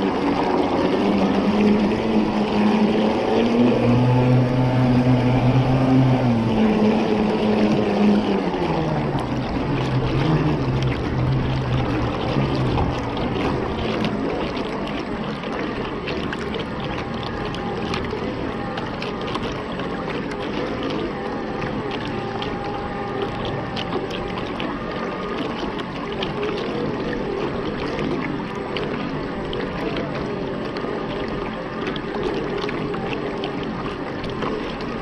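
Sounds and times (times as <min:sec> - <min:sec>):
model boat motor hum: 0:00.0 - 0:35.0
water splashing against hull: 0:00.0 - 0:35.0.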